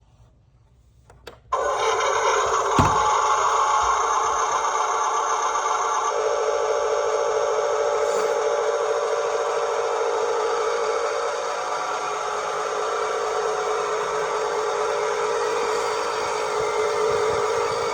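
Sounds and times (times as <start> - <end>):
toy truck motor whirring: 1.6 - 17.9.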